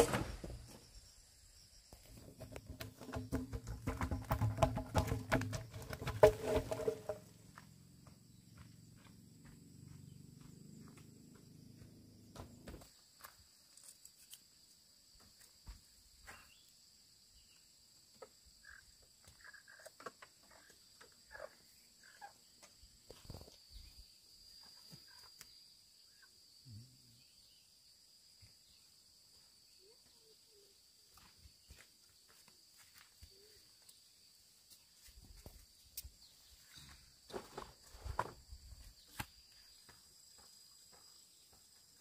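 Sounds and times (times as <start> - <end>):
high insect drone: 6.6 - 42.0.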